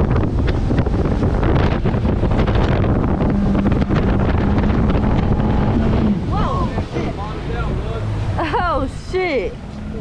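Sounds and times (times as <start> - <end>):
rush of boat wake and spray: 0.0 - 10.0
wind buffeting microphone: 0.0 - 10.0.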